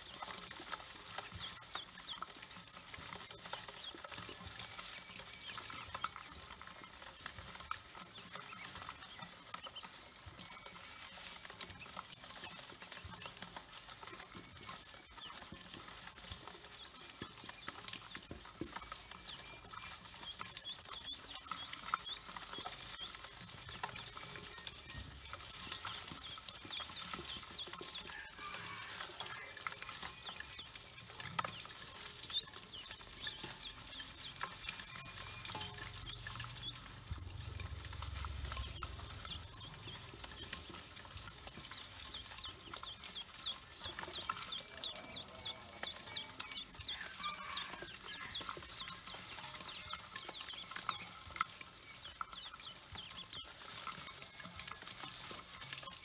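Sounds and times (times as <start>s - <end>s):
ducklings peeping: 0.0s - 56.0s.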